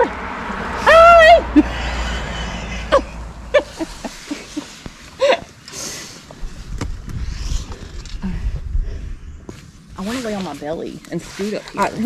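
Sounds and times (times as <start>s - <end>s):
low rumble: 0.0s - 11.4s.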